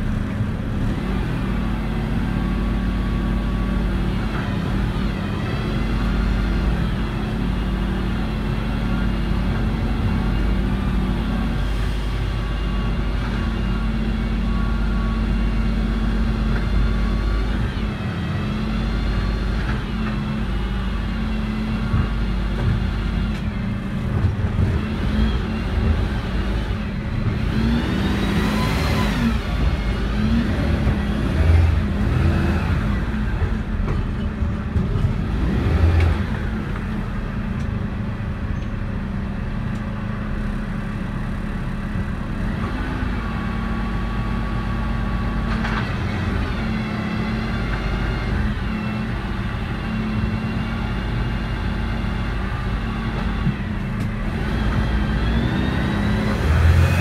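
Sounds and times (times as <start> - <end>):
engine whines: 0.0 - 57.0
truck diesel engine rumble: 0.0 - 57.0.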